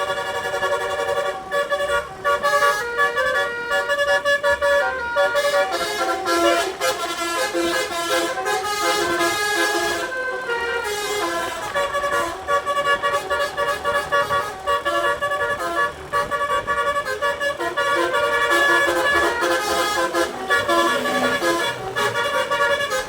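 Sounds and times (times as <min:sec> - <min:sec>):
musical air horn tune: 0:00.0 - 0:23.0.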